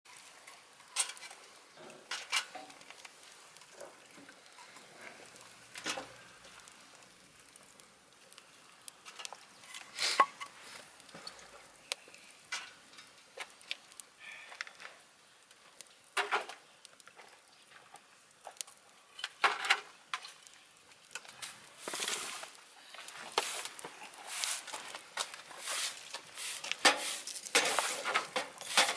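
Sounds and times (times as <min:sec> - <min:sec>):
faint hiss: 0:00.1 - 0:28.9
wood fire crackling in stove: 0:00.1 - 0:28.9.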